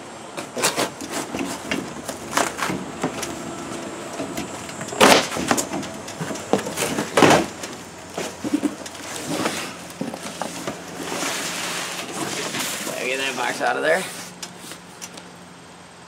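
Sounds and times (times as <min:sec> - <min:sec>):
cardboard box scrapes and rustles: 0:00.4 - 0:03.8, 0:05.2 - 0:14.8.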